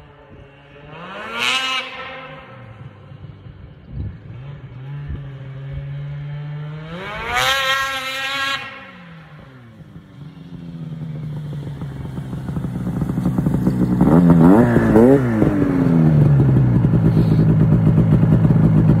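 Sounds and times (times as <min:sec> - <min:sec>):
snowmobile engine revving and idling: 0:00.0 - 0:19.0.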